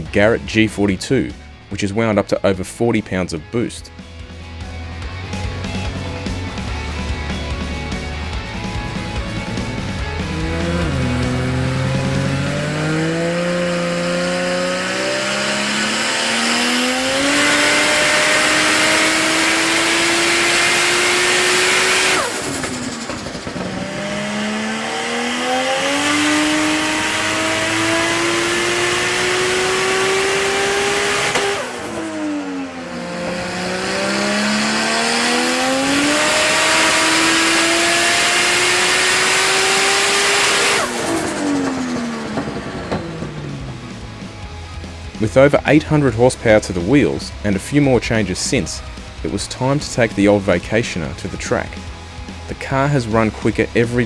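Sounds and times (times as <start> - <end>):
turbocharged engine revving: 0.0 - 3.3, 3.9 - 54.0.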